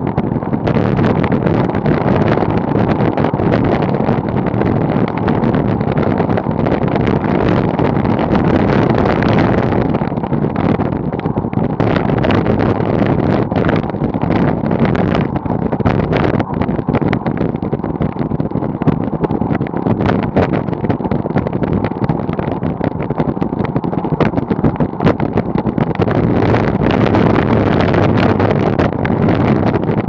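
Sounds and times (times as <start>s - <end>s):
bicycle tyres on dirt road: 0.0s - 30.0s
wind on microphone: 0.0s - 30.0s.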